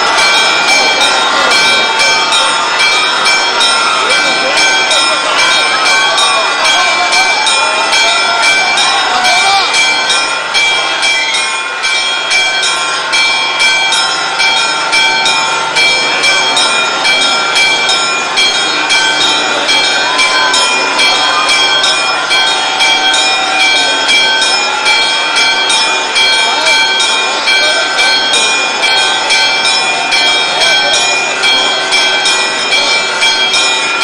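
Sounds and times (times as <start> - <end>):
church bells ringing rapidly: 0.0 - 34.0
faint crowd voices: 0.0 - 34.0.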